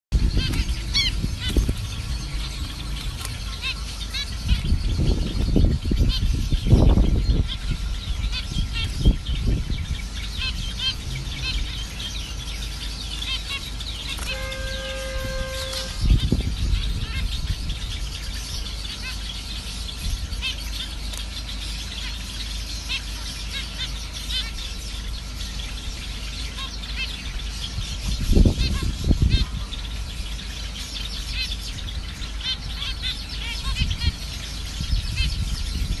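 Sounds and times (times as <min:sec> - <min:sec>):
finches chirping: 0:00.2 - 0:36.0.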